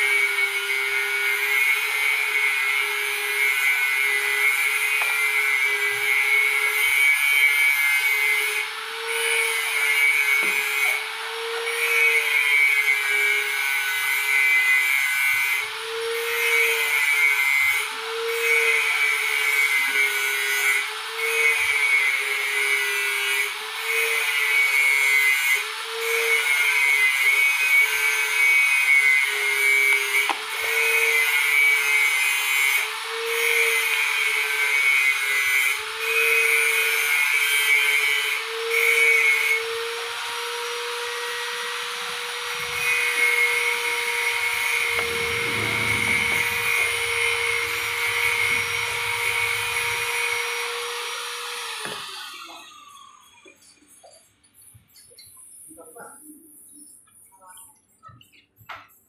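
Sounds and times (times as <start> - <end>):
toy motor and gears whirring: 0.0 - 54.1.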